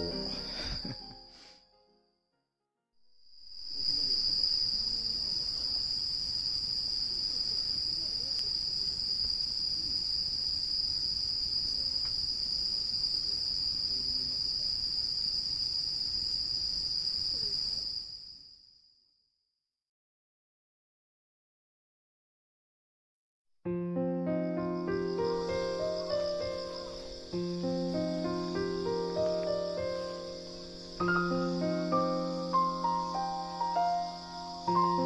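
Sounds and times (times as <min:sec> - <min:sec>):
crickets chirping: 0:00.0 - 0:01.4, 0:03.1 - 0:19.3, 0:23.8 - 0:35.0.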